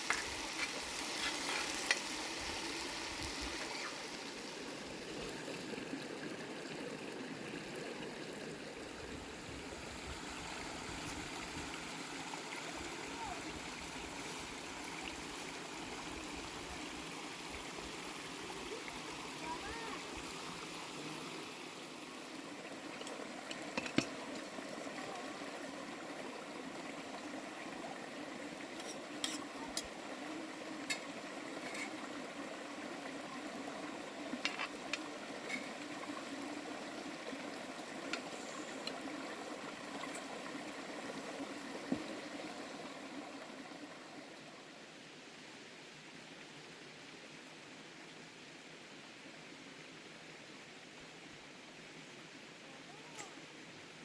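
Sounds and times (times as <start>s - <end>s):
food bubbling and sizzling: 0.0s - 44.4s
faint outdoor ambient hiss: 0.0s - 54.0s.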